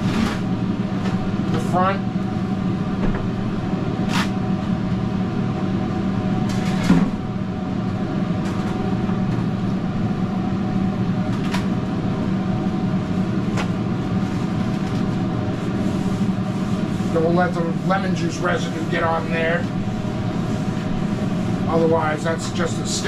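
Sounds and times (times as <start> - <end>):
kitchen machinery humming: 0.0 - 23.0.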